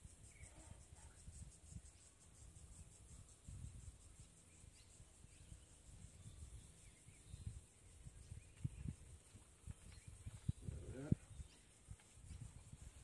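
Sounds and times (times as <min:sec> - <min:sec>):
faint bird chirps: 0:00.0 - 0:13.0
high insect drone: 0:00.0 - 0:13.0.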